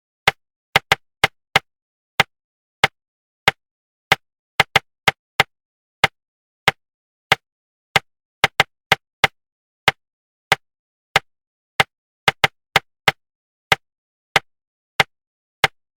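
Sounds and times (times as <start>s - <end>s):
sharp dry rhythmic taps: 0.3s - 7.4s, 8.0s - 10.6s, 11.2s - 13.8s, 14.4s - 16.0s.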